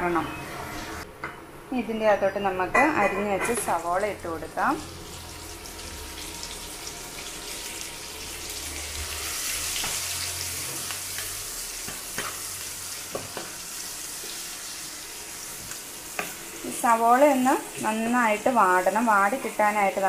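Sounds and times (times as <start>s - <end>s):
onions sizzling in hot oil: 3.6s - 20.0s.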